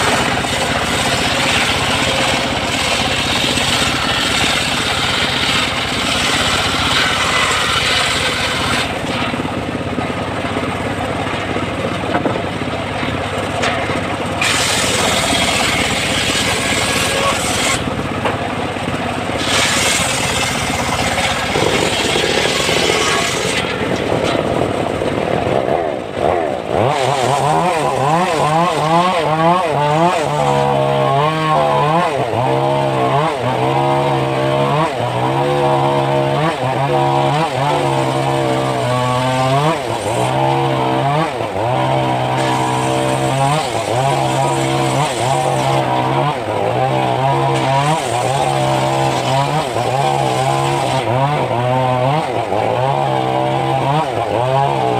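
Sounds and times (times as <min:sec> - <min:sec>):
engine-driven circular sawmill cutting: 0:00.0 - 0:54.9.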